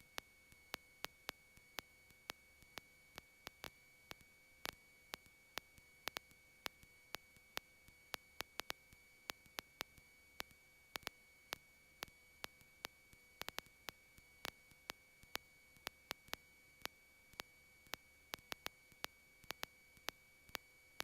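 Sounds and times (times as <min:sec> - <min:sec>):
faint electrical clicks: 0:00.0 - 0:21.0
low steady hiss: 0:00.0 - 0:21.0.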